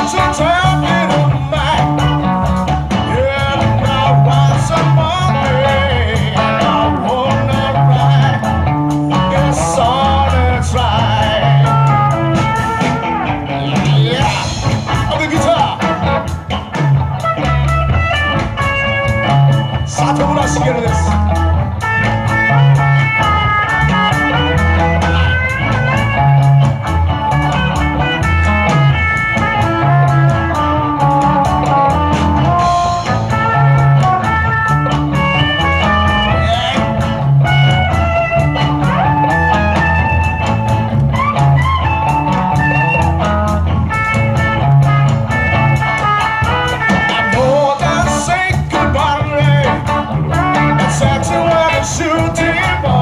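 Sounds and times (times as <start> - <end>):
low bass pattern: 0.0 - 53.0
rock band playing: 0.0 - 53.0.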